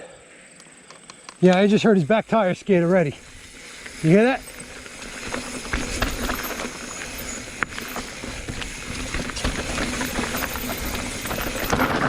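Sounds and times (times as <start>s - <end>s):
bike rolling over rocks: 1.4s - 12.0s.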